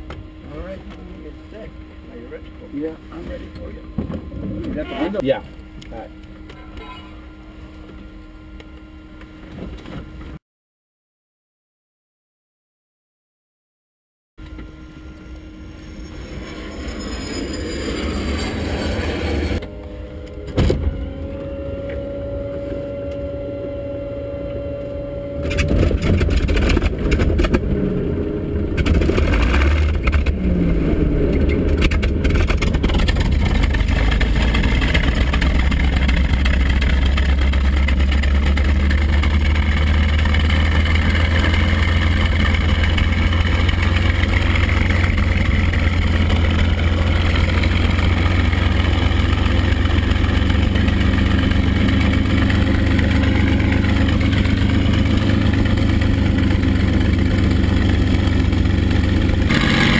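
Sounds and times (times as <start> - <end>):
aircraft engine coughing and running: 0.0 - 10.4, 14.4 - 59.9
starter whir and whine: 0.0 - 10.4, 14.4 - 59.9.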